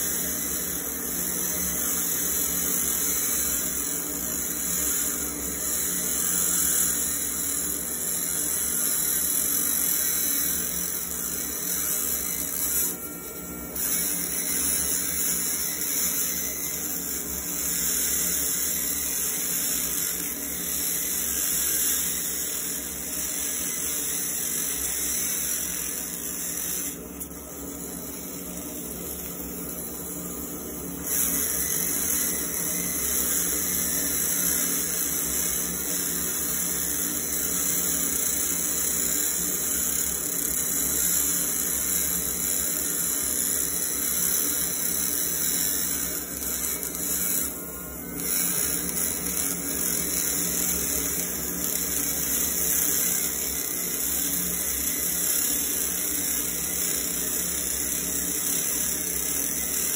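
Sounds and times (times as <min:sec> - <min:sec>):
laser engraver hiss and crackle: 0:00.0 - 0:59.9.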